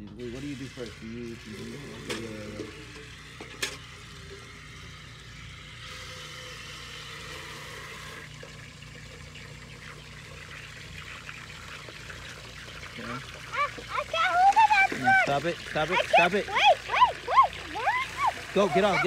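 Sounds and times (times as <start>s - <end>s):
water pouring into metal bucket: 0.1s - 19.0s.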